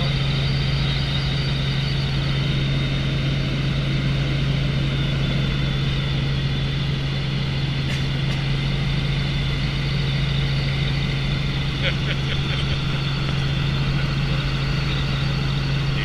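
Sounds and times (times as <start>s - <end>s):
helicopter engine and rotors: 0.0s - 16.0s.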